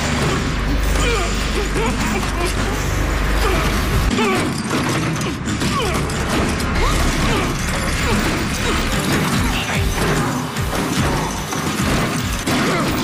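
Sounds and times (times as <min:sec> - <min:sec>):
metal mechanism clanking: 0:00.0 - 0:13.0
tense background music: 0:00.0 - 0:13.0.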